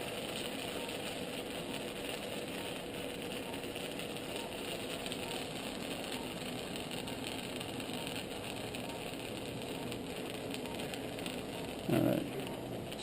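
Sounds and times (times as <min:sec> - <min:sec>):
faint steady tones: 0:00.0 - 0:13.0
hum and hiss of equipment: 0:00.0 - 0:13.0.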